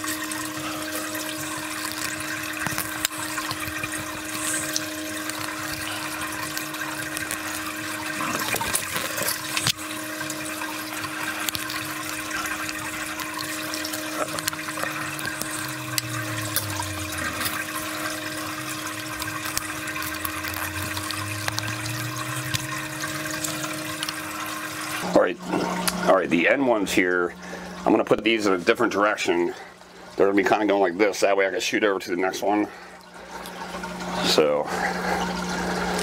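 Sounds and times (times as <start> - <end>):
pump hum: 0.0 - 36.0
water circulating: 0.0 - 36.0.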